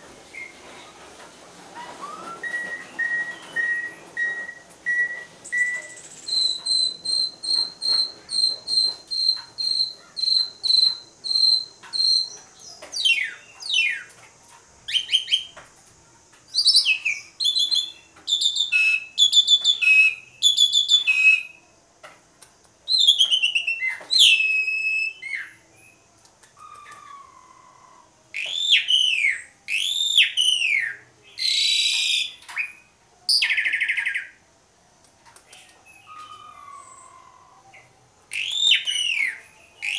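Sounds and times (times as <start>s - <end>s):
starling singing: 1.8s - 14.1s, 16.5s - 21.6s, 22.9s - 34.4s, 35.5s - 39.9s.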